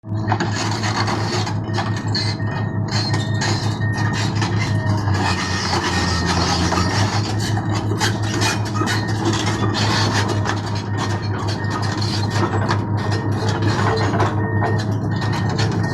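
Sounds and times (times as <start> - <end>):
diesel engine running: 0.0 - 15.9
steel tracks clanking: 0.3 - 15.9.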